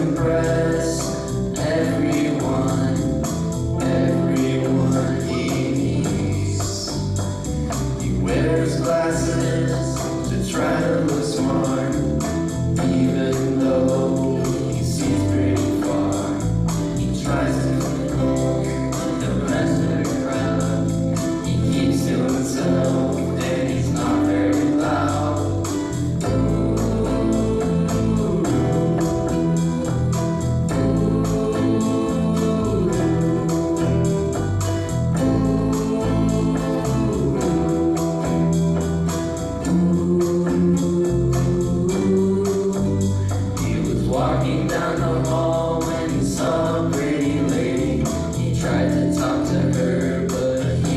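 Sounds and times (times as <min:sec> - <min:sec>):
group vocals singing: 0:00.0 - 0:07.2, 0:07.8 - 0:50.9
steady drum beat: 0:00.0 - 0:50.9
sustained keyboard chords: 0:00.0 - 0:50.9.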